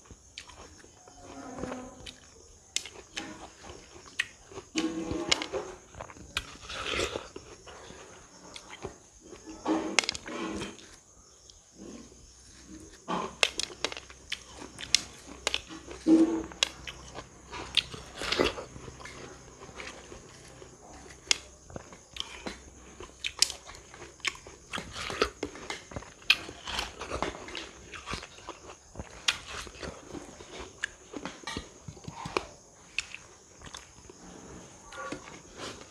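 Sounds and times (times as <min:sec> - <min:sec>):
person chewing crisp fruit: 0:00.0 - 0:35.9.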